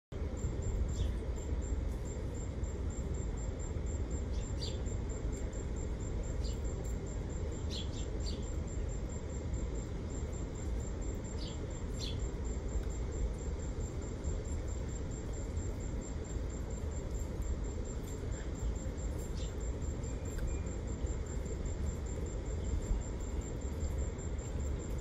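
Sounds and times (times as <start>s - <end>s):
steady low rumble: 0.1s - 25.0s.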